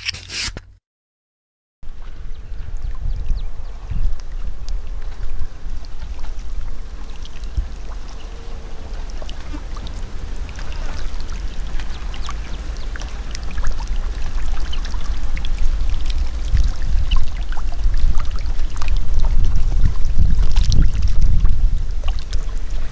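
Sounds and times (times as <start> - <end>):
water sloshing and trickling: 1.8 - 22.9
wind rumble on microphone: 1.8 - 22.9
small splashes: 2.8 - 22.9.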